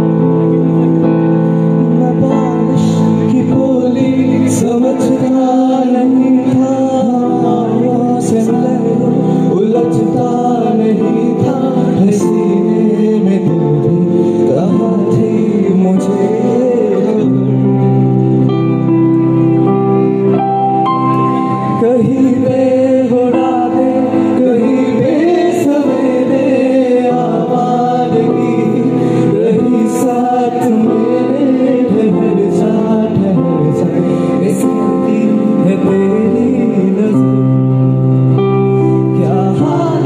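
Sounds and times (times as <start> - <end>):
man singing into a microphone: 0.0 - 20.2, 21.3 - 40.0
electronic keyboard chords: 0.0 - 40.0.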